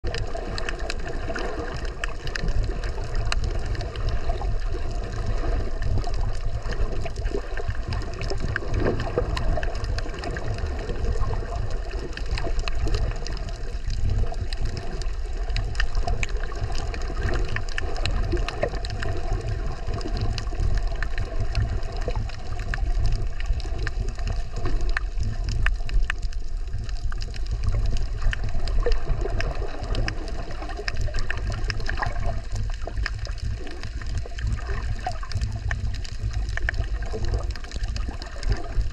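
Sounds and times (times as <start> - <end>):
faint scattered clicks and crackles: 0.0 - 38.9
underwater rumble of moving water: 0.0 - 38.9.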